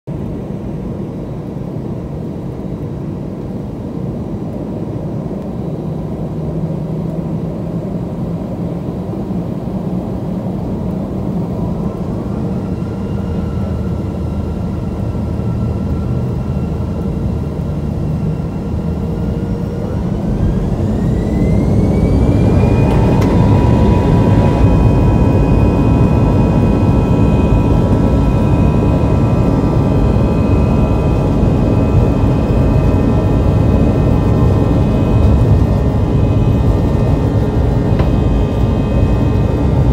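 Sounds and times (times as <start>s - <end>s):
jet engine rumble: 0.1s - 39.9s
jet engine whine rising: 0.1s - 39.9s.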